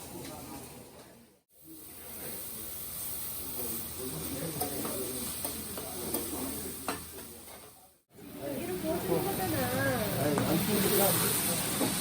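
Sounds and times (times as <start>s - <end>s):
meat sizzling on a griddle: 1.6s - 12.0s.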